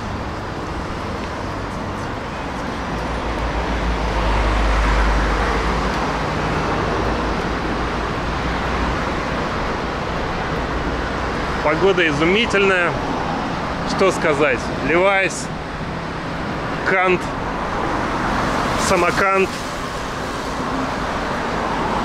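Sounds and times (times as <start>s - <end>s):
road traffic roar: 0.0s - 22.0s.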